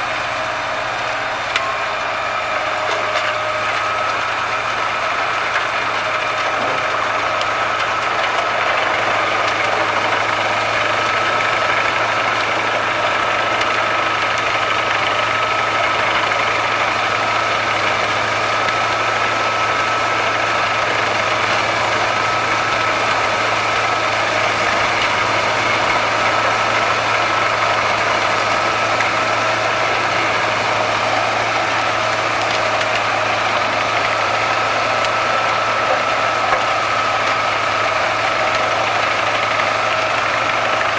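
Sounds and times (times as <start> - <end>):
wood chipper running: 0.0 - 40.9.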